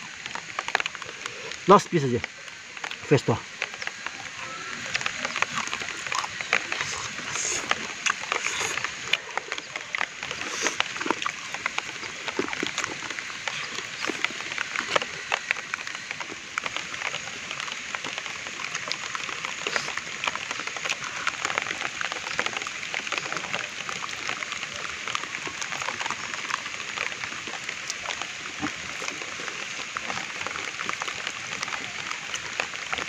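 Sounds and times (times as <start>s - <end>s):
chewing leafy herb: 0.2s - 33.0s.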